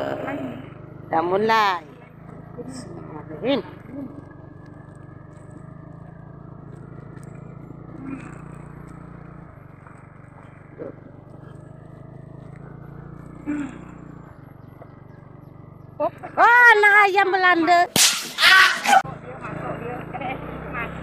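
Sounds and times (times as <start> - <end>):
scooter engine running: 0.0 - 21.0.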